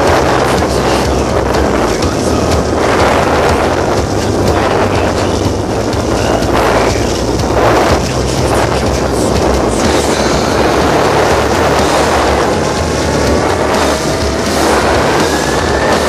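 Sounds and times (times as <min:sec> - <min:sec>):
water rushing past hull: 0:00.0 - 0:16.0
wind buffeting microphone: 0:00.0 - 0:16.0.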